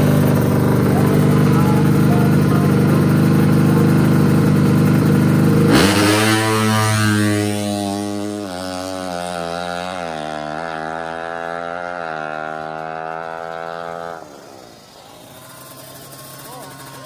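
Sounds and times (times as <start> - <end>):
motorcycle engine at full throttle: 0.0 - 17.0.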